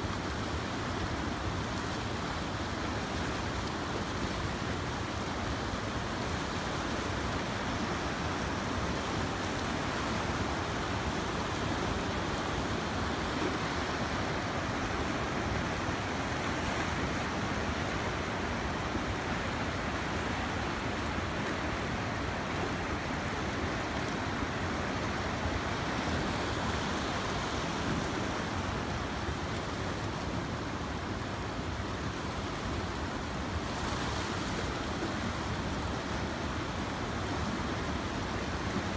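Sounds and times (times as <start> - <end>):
river rushing past stony bank: 0.0 - 38.9.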